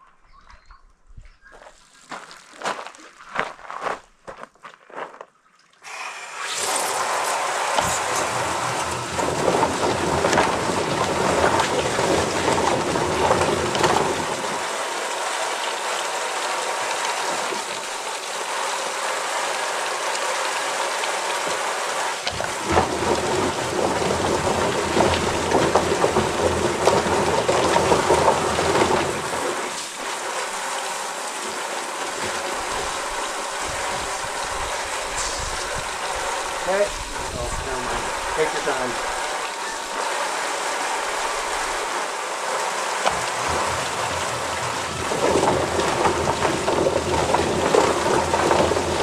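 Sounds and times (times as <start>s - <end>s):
water spraying and splashing: 5.6s - 49.0s.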